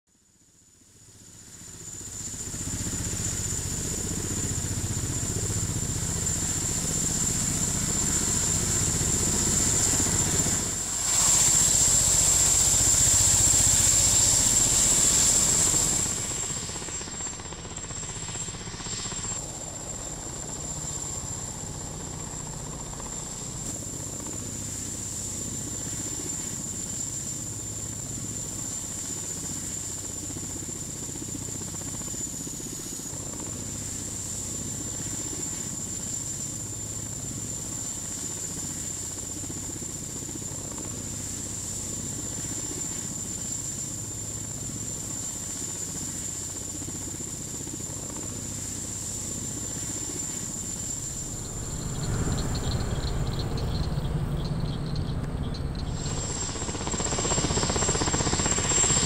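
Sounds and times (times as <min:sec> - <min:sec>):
high whine of helicopter: 0:00.1 - 0:59.0
helicopter rotors throbbing: 0:00.6 - 0:59.0.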